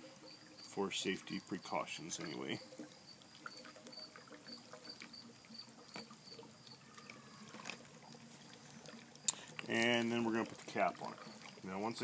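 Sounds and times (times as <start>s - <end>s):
water bubbling and fizzing: 0.0s - 12.0s.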